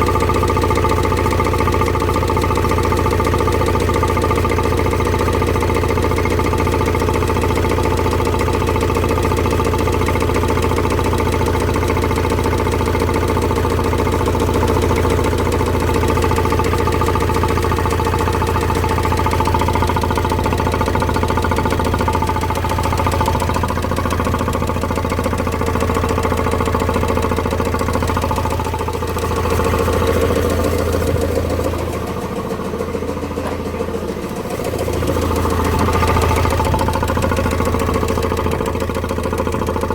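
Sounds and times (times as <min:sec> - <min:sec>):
diesel engine idling: 0:00.0 - 0:39.9
rhythmic engine knock: 0:00.0 - 0:39.9.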